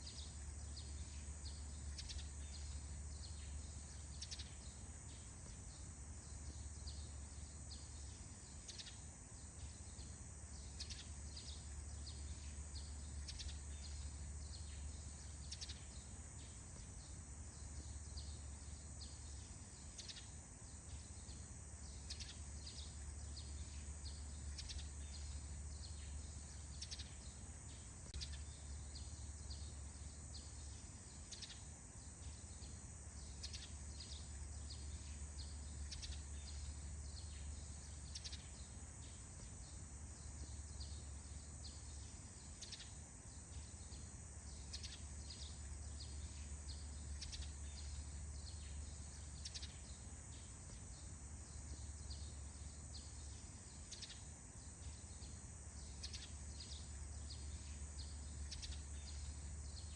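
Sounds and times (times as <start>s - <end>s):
bird chirps: 0.0s - 59.9s
steady hiss: 0.0s - 59.9s.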